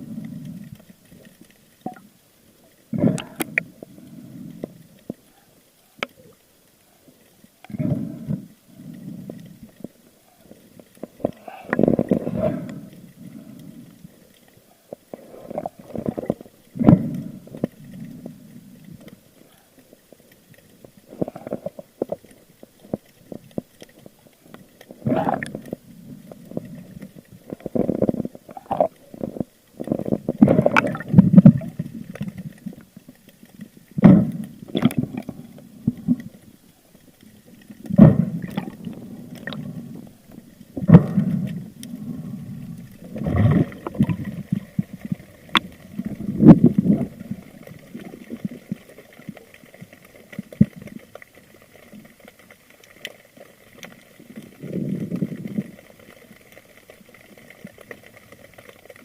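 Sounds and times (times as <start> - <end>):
muffled underwater gurgling: 0.0 - 52.2, 53.6 - 59.0.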